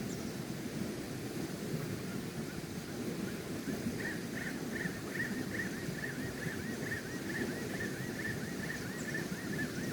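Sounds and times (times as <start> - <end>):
rain: 0.0 - 9.9
wind: 0.0 - 9.9.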